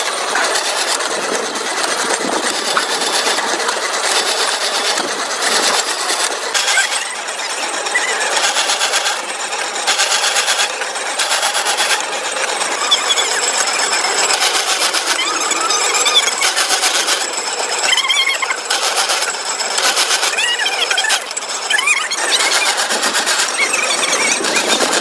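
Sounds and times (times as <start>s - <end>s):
machine squealing: 0.0s - 25.0s
metalworking machinery rattling: 0.0s - 25.0s.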